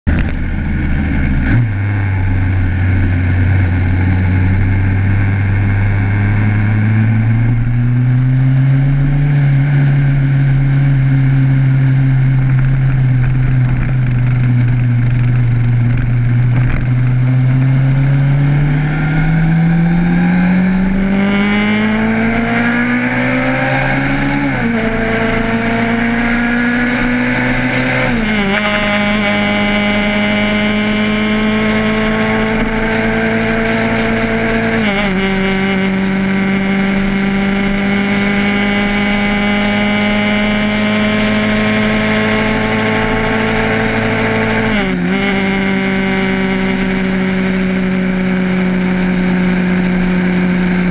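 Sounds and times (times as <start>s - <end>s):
motorcycle engine accelerating: 0.0s - 50.9s
wind and road noise: 0.0s - 50.9s.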